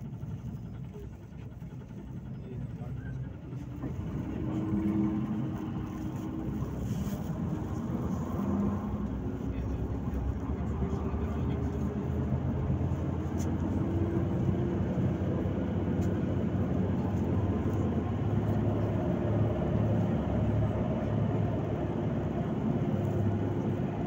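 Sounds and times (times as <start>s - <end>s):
bus engine drone: 0.0s - 24.0s
road rumble: 0.0s - 24.0s.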